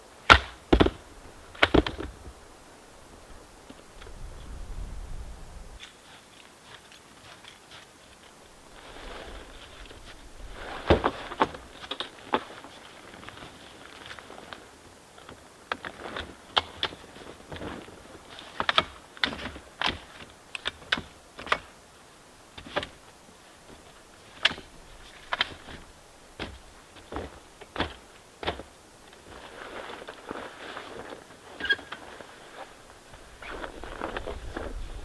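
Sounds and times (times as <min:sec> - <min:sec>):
low steady hiss: 0:00.0 - 0:35.0.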